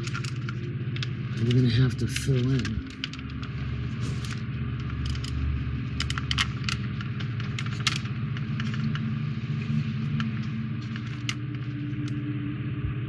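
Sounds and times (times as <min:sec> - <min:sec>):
plastic parts clicking and tapping: 0:00.0 - 0:12.2
steady low hum: 0:00.0 - 0:13.0.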